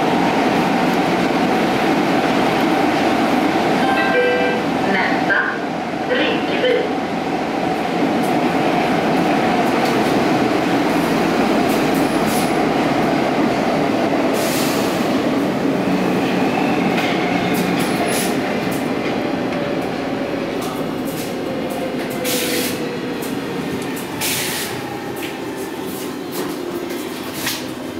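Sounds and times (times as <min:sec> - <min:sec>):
train wheels rumbling on rails: 0:04.7 - 0:27.9.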